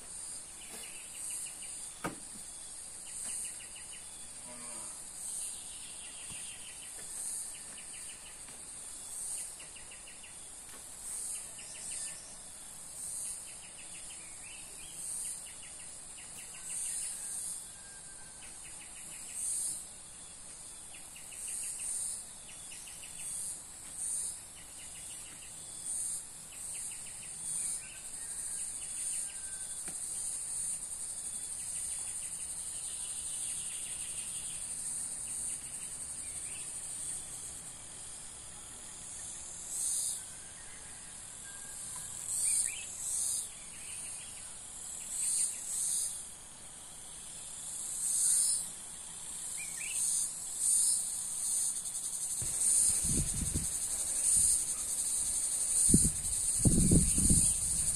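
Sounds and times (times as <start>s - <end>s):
buzzy insect trills: 0.0s - 57.9s
insects buzzing: 0.0s - 57.9s.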